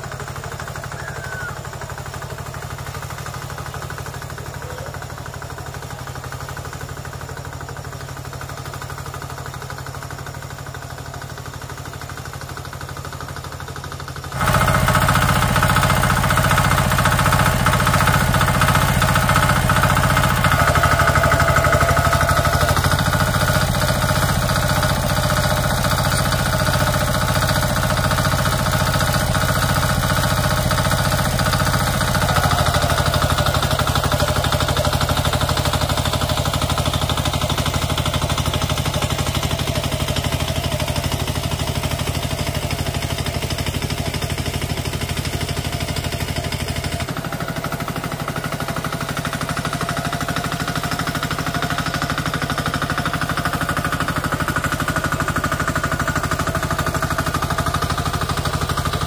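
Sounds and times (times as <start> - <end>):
tractor engine knocking: 0.0 - 59.0.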